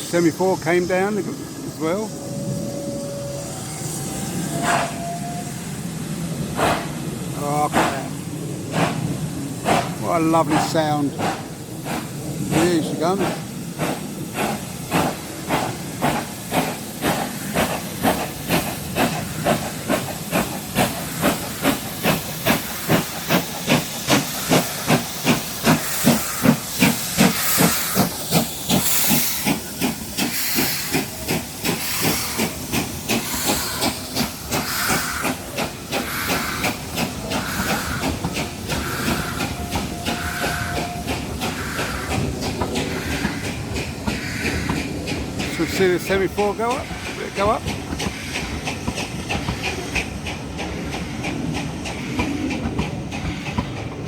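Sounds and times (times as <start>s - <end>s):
hissing steam: 0.0s - 54.0s
steam locomotive exhaust chuffs: 0.0s - 54.0s.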